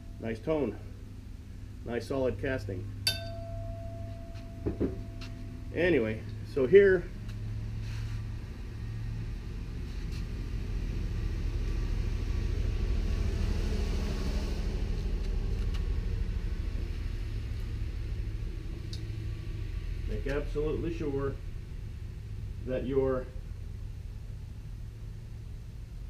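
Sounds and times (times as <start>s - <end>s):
low mechanical rumble: 0.0s - 26.0s.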